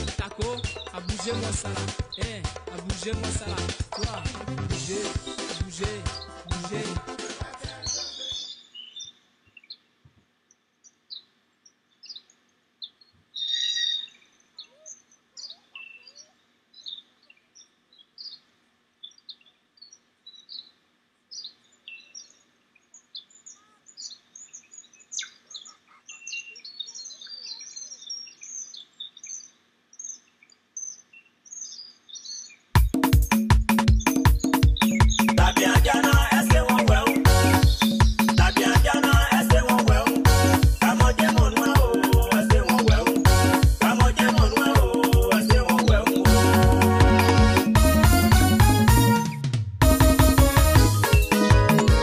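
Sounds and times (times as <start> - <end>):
small birds chirping: 0.0 - 2.4, 3.4 - 6.8, 7.6 - 46.8, 50.9 - 51.8.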